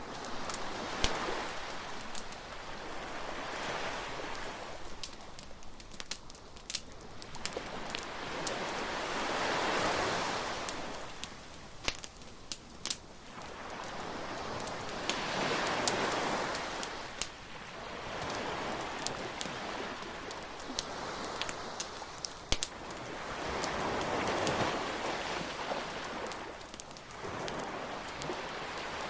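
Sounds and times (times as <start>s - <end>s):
bonfire crackling and popping: 0.0s - 29.0s
waves breaking: 0.0s - 29.0s.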